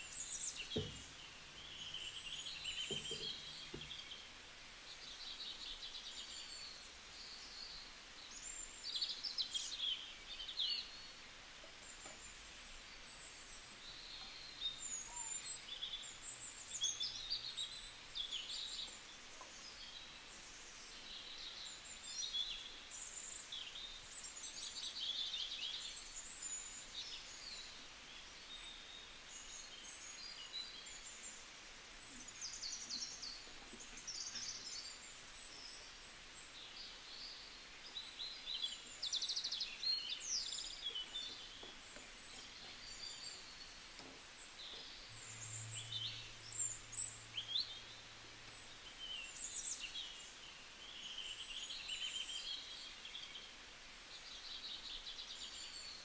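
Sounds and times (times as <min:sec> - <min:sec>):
birds chirping: 0:00.0 - 0:23.0, 0:24.6 - 0:53.6
faint steady hiss: 0:00.0 - 0:56.0.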